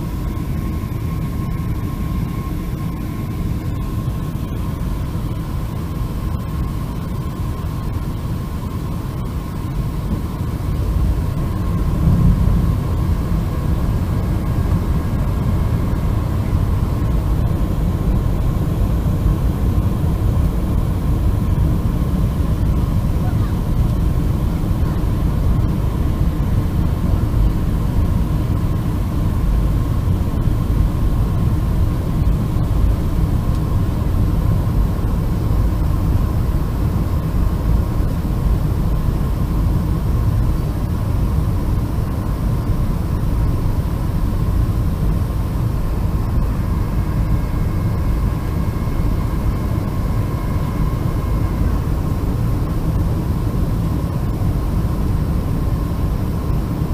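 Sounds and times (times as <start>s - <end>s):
jet engines rumbling: 0.0s - 56.9s
thin constant whine: 0.0s - 56.9s.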